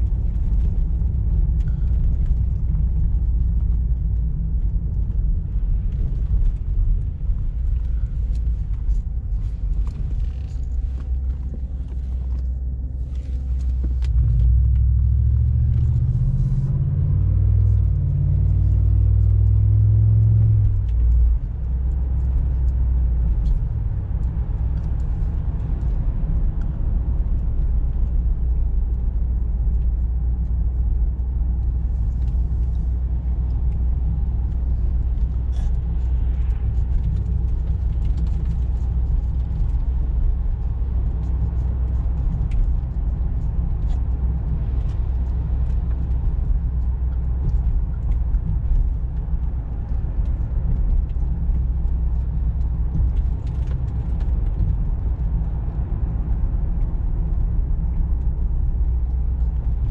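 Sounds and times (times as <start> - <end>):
car engine droning from cabin: 0.0 - 59.9.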